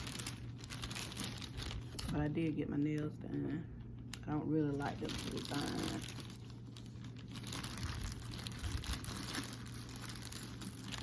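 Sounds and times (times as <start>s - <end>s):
low steady hum: 0.0s - 11.0s
packaging wrap rustling: 0.0s - 11.0s.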